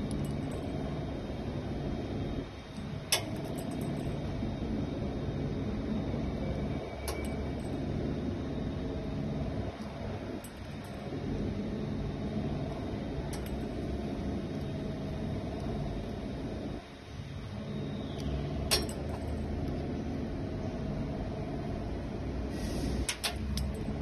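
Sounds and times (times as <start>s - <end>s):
factory machinery humming: 0.0s - 24.0s.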